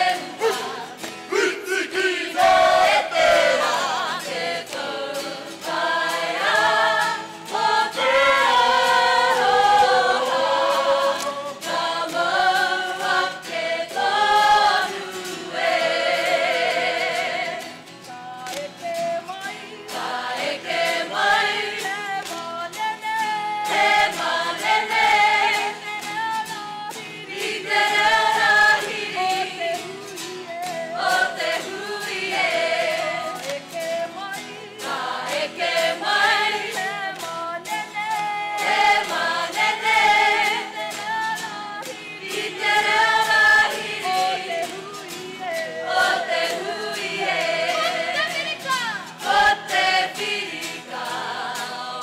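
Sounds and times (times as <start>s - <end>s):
men and women singing together: 0.0s - 52.0s
strummed acoustic guitar: 0.0s - 52.0s.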